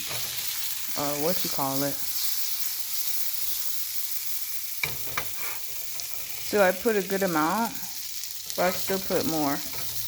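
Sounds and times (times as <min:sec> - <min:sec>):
sausages sizzling in a pan: 0:00.0 - 0:10.0.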